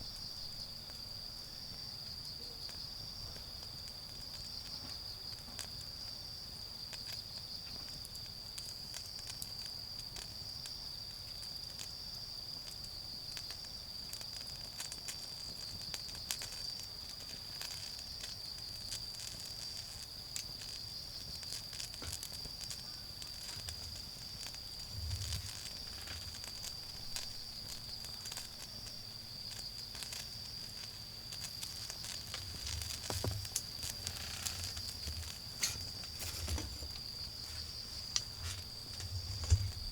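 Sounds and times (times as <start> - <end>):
insects chirring: 0.0 - 39.9
wood fire crackling and popping: 1.7 - 39.9.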